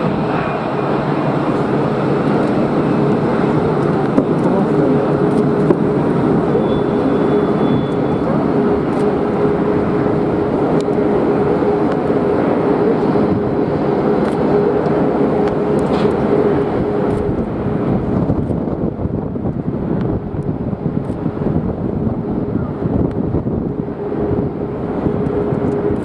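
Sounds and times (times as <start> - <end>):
jet engines rushing: 0.0 - 26.0
steady hum: 0.0 - 26.0.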